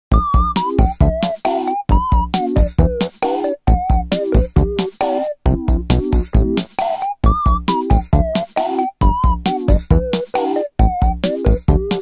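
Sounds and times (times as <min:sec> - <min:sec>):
drum machine beat: 0:00.1 - 0:12.0.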